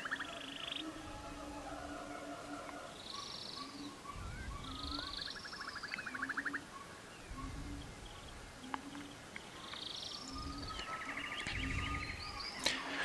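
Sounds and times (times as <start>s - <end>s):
short low bird calls: 0.0s - 12.8s
bird trill: 0.0s - 13.0s
birds chirping: 0.0s - 13.0s.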